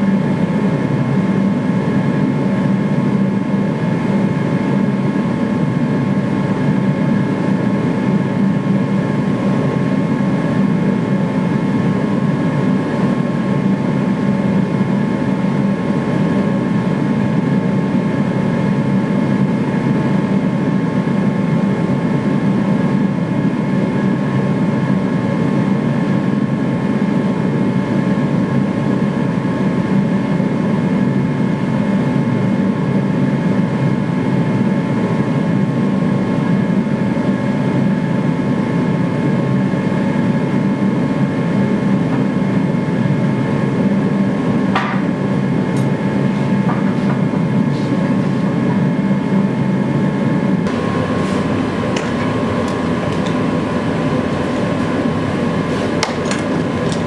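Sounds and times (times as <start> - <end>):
gas forge roaring: 0.0 - 57.0.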